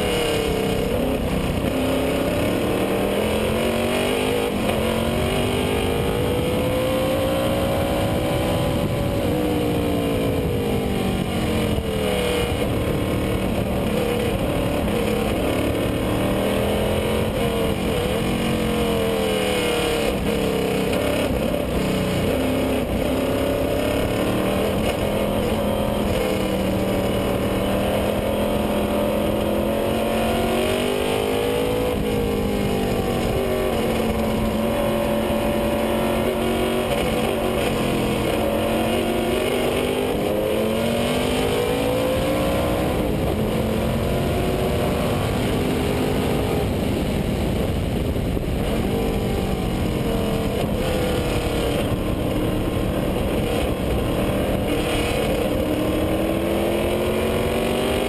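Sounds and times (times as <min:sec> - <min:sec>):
race car engine: 0:00.0 - 0:58.0
wind and road noise: 0:00.0 - 0:58.0.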